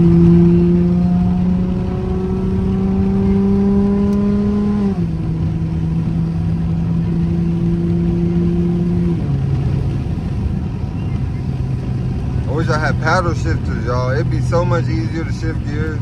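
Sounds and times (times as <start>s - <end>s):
car exhaust droning: 0.0s - 16.0s.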